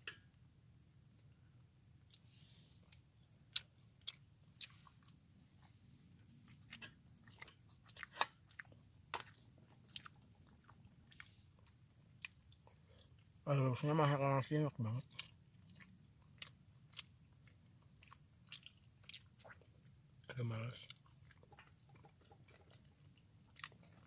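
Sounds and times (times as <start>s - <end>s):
person chewing noodles: 2.0s - 13.4s, 14.8s - 24.0s.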